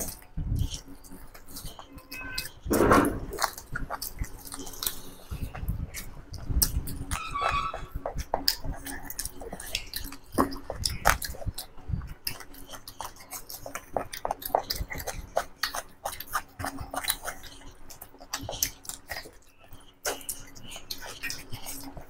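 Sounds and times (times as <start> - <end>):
fingers working food on metal plates: 0.0 - 22.0
people chewing and crunching food: 0.0 - 22.0.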